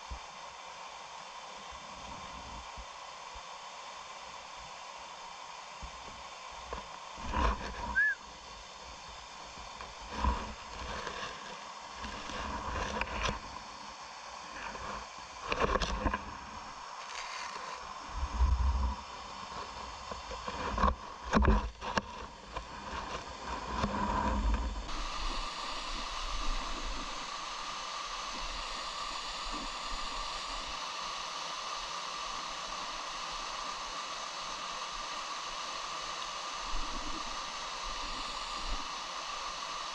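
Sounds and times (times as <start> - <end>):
stream water rushing: 2.9 - 18.1, 19.0 - 39.9.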